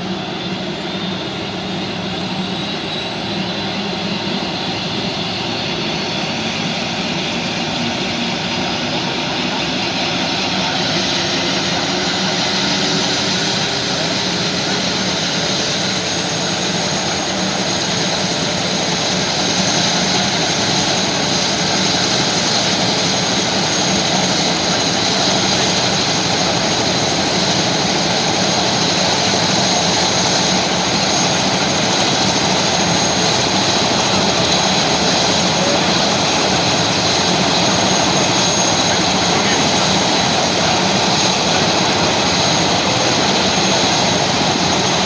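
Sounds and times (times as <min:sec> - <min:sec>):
helicopter engine and rotor: 0:00.0 - 0:45.0.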